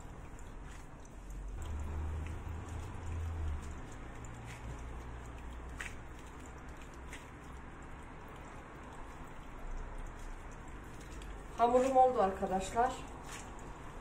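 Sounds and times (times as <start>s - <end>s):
dough squishing: 0.0s - 14.0s.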